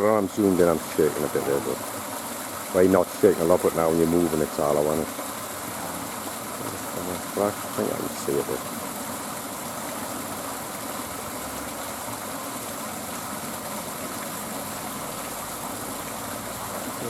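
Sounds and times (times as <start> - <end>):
stream water pouring over weir: 0.0 - 17.0.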